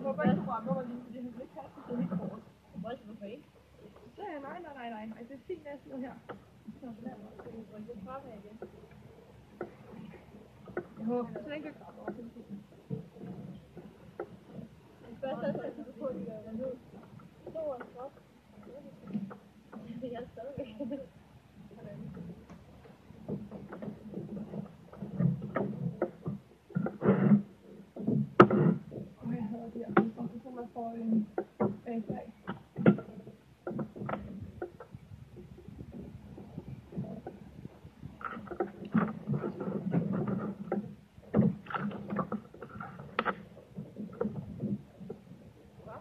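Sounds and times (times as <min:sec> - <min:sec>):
water washing: 0:00.0 - 0:46.0
kayak knocking against dock: 0:02.0 - 0:46.0.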